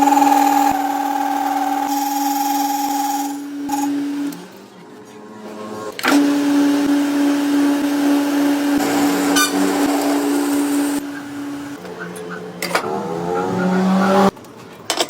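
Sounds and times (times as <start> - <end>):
power tool motor whining: 0.0 - 4.5, 6.0 - 14.4.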